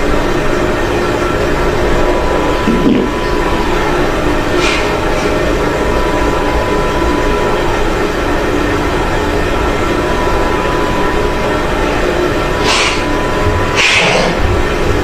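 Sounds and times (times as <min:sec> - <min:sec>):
faint steady hum: 0:00.0 - 0:13.8
steady rumbling background noise: 0:00.0 - 0:15.0.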